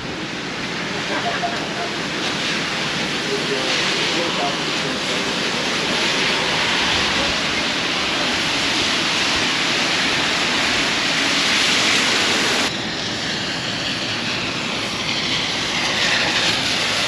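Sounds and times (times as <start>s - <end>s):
heavy rain: 0.0s - 17.0s
strong wind: 0.0s - 17.0s.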